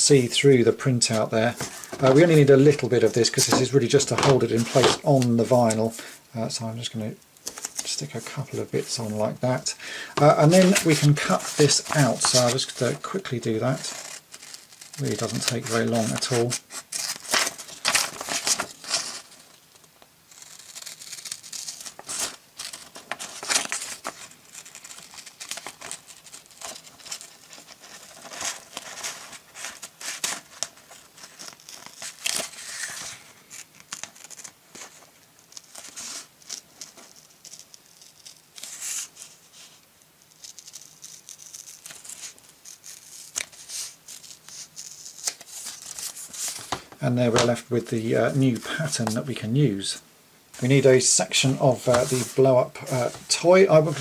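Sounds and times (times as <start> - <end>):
paper crinkling: 0.9 - 5.8, 7.4 - 49.3, 51.1 - 54.0.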